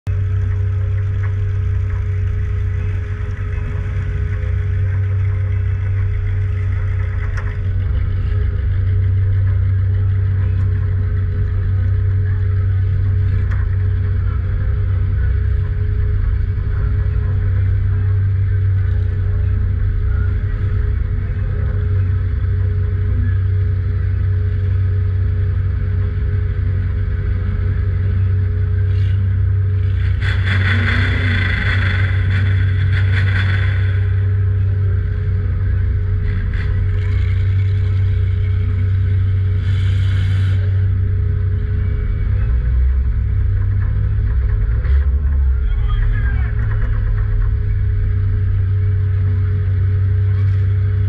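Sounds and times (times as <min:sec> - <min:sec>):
car engine low drone: 0:00.0 - 0:51.0.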